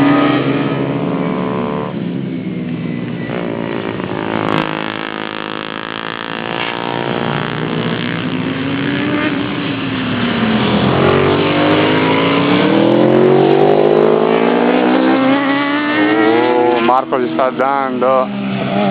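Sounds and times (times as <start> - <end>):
pit bike engines revving: 0.0 - 18.9.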